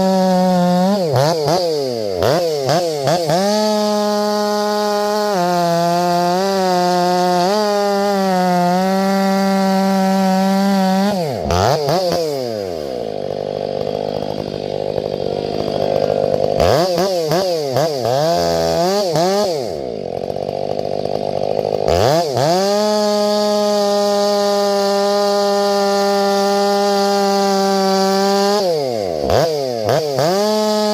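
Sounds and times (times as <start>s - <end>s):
chainsaw cutting wood: 0.0s - 30.9s.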